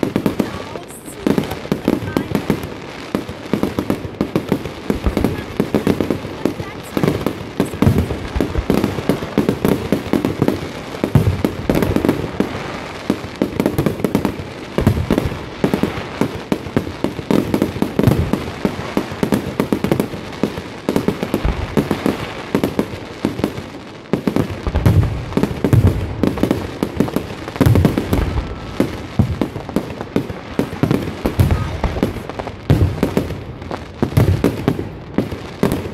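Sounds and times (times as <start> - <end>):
fireworks bursting: 0.0 - 35.9.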